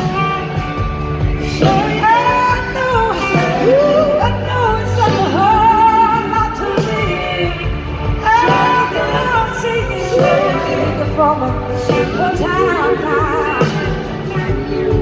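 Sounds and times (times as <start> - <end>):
live rock blues band: 0.0 - 15.0.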